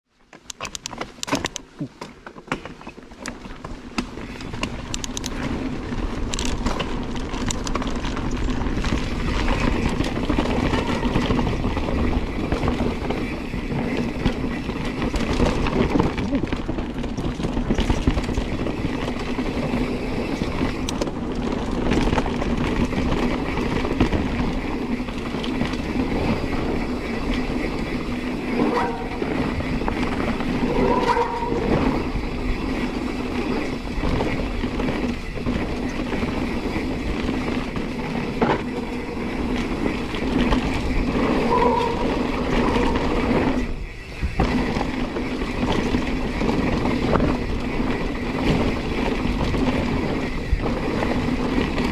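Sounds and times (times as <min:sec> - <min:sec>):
bike rattling over rocks: 0:00.2 - 0:51.9
tyres rushing on dirt: 0:00.6 - 0:51.9.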